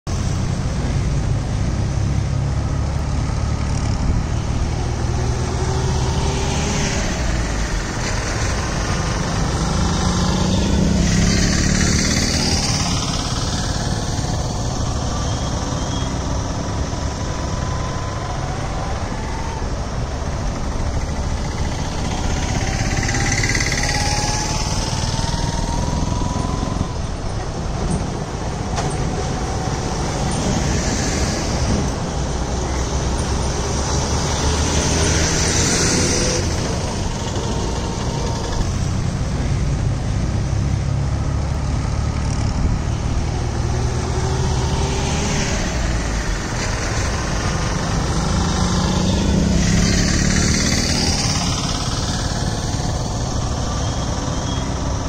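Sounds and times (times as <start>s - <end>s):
diesel vehicles engine noise: 0.0s - 55.0s
heavy vehicles passing: 0.1s - 55.0s.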